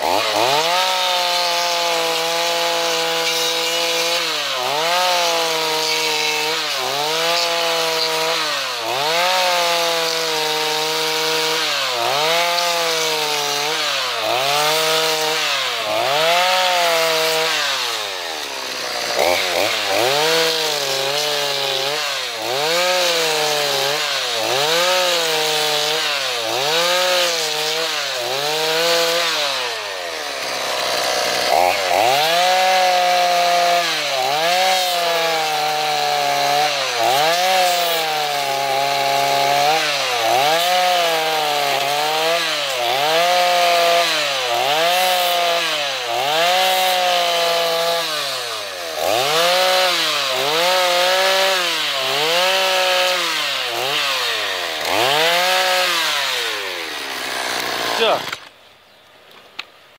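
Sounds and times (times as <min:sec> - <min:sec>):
chainsaw cutting wood at high revs: 0:00.0 - 0:58.6.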